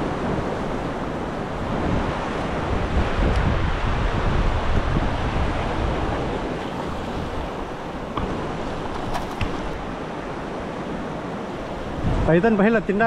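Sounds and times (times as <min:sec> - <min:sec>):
surf washing onto sand: 0:00.0 - 0:13.0
wind buffeting microphone: 0:00.0 - 0:13.0.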